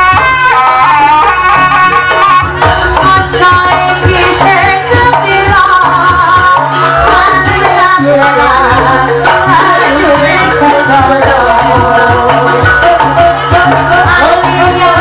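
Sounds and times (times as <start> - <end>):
steady drumming: 0.0 - 15.0
person singing: 3.0 - 15.0.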